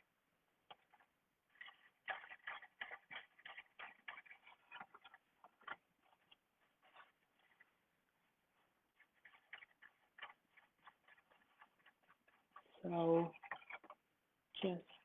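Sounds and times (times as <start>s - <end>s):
paintbrush strokes on paper: 0.9s - 14.0s.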